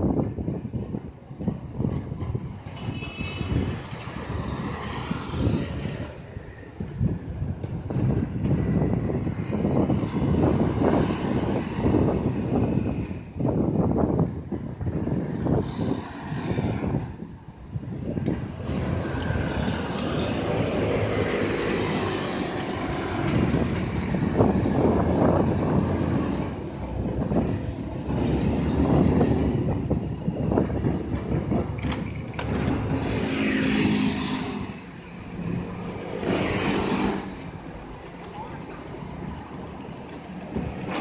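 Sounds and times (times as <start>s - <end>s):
street traffic passing: 0.0s - 41.0s
wind on microphone: 0.0s - 41.0s.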